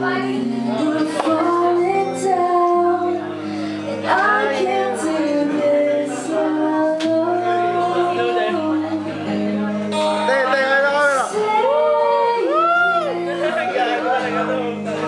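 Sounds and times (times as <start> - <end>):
woman singing: 0.0 - 10.0, 11.3 - 13.8
strummed acoustic guitar: 0.0 - 15.0.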